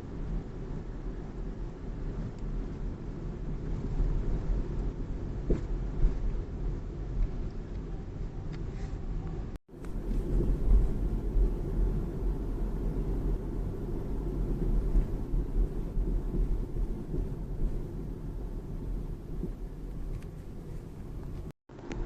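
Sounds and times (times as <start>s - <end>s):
car road rumble: 0.0s - 22.0s
underbody noise: 0.7s - 22.0s.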